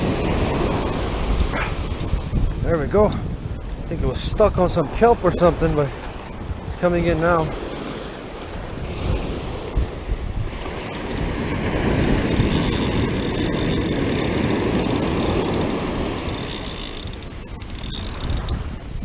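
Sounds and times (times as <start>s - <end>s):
surf washing up a beach: 0.0s - 19.0s
wind rumbling on microphone: 0.0s - 19.0s.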